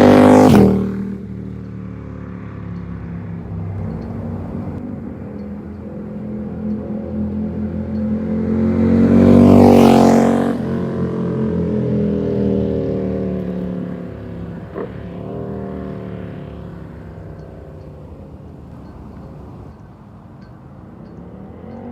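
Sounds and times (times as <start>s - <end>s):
motorcycle passing by: 0.0s - 18.7s, 21.0s - 21.9s.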